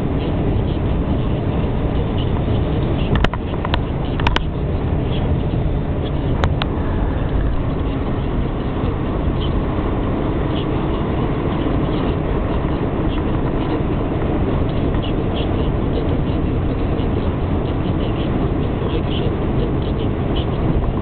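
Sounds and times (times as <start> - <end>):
car engine hum: 0.0 - 21.0
road and tyre noise: 0.0 - 21.0.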